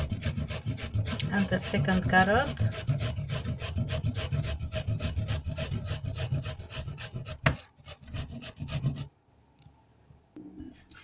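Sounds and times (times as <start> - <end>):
carrot grating on metal grater: 0.0 - 9.1.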